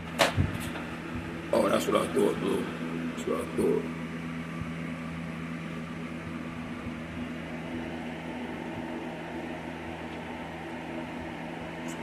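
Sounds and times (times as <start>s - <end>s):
mechanical hum with tones: 0.0s - 12.0s.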